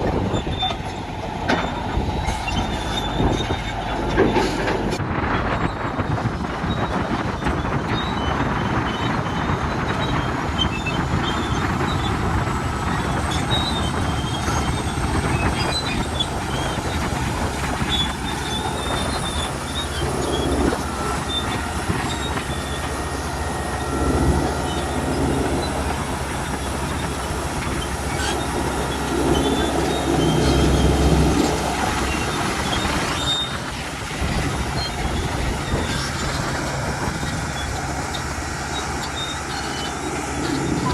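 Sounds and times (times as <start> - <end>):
diesel engine running: 0.0 - 40.9
track links clanking and squealing: 0.0 - 40.9.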